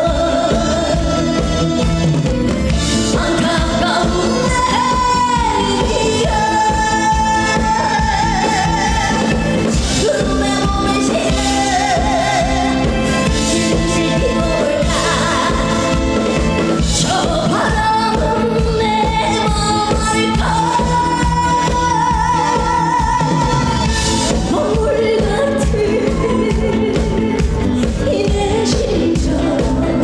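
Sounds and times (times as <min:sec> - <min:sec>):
band playing over a beat: 0:00.0 - 0:30.0
woman singing: 0:00.0 - 0:30.0.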